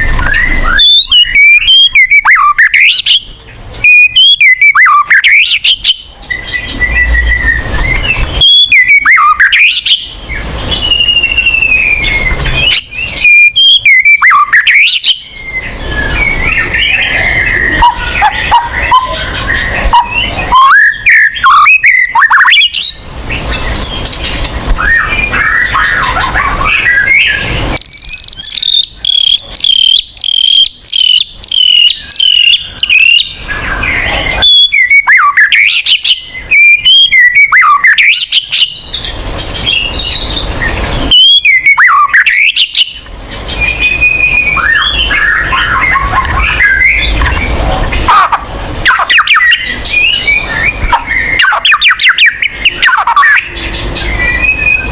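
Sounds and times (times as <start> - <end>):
songbird singing: 0.0 - 54.9.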